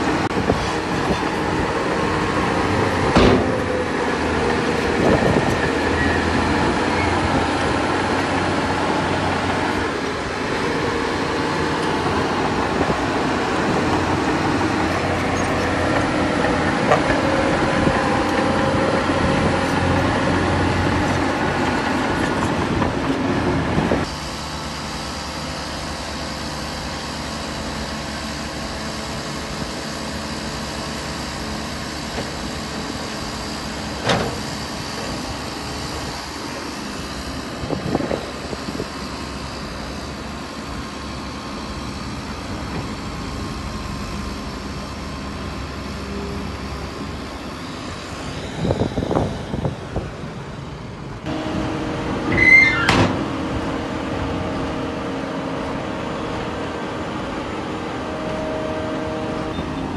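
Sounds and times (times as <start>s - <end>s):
diesel machinery clatter and drone: 0.0s - 59.9s.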